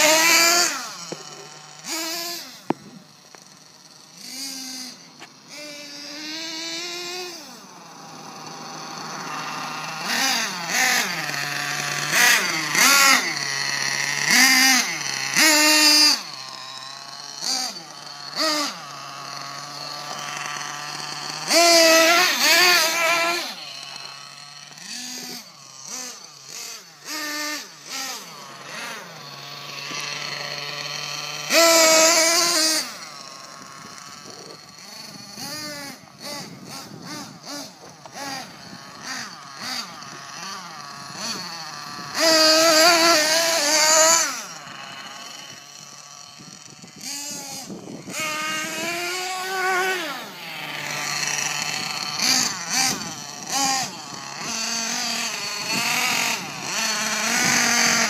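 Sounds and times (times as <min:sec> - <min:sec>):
rc truck engine idling and revving: 0:00.0 - 0:58.0.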